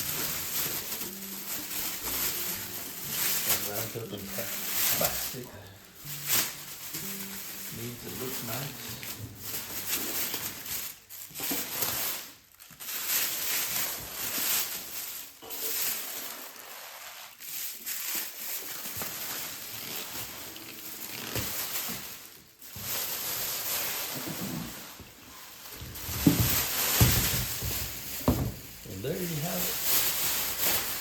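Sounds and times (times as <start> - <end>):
plastic wrapping crinkling: 0.0 - 31.0.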